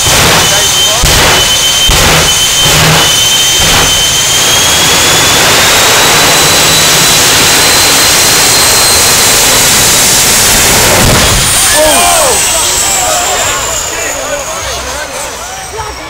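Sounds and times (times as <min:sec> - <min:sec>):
jet turbine roaring with high whine: 0:00.0 - 0:16.0.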